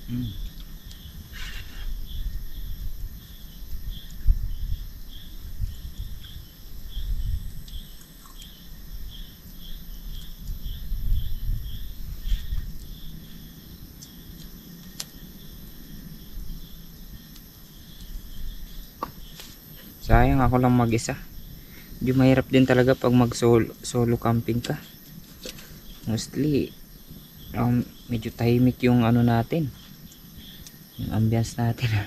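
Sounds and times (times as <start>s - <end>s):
cricket chirping: 0.0s - 32.0s.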